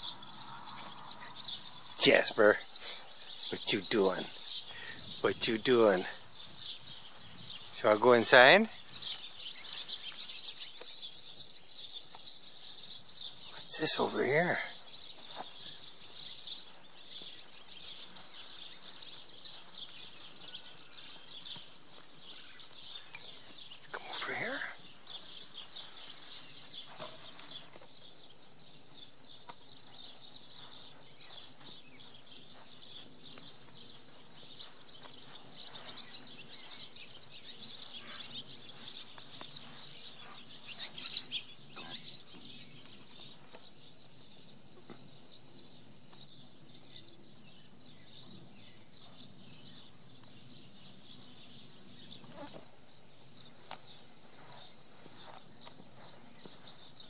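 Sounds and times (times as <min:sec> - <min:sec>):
birds chirping and calling: 0:00.0 - 0:57.0.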